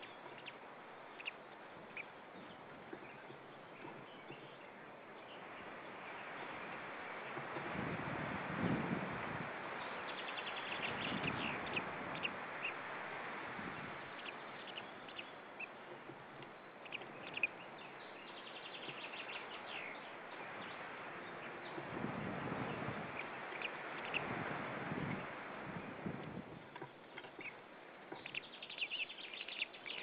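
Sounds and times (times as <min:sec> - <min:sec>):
steady background hiss: 0:00.0 - 0:30.0.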